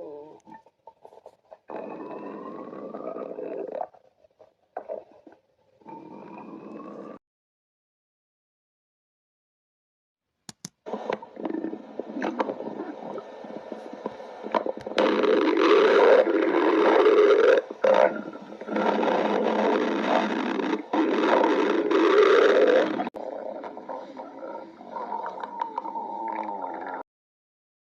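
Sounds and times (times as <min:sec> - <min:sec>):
stomach growling: 0:00.0 - 0:07.2, 0:10.9 - 0:27.0.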